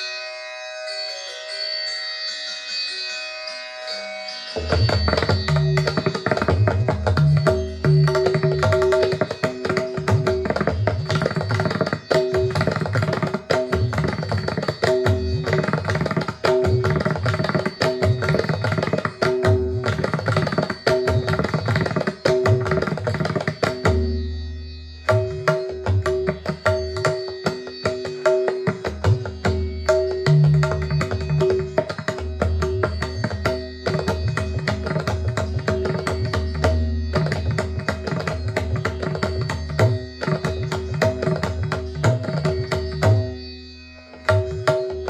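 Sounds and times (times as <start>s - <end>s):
tabla drumming: 4.6s - 24.4s, 25.0s - 45.0s.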